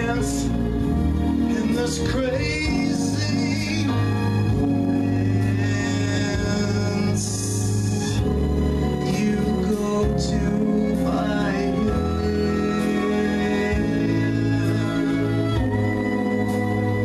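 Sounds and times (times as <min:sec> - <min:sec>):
bass notes: 0:00.0 - 0:17.0
person singing: 0:00.0 - 0:17.0
sustained keyboard chords: 0:00.0 - 0:17.0.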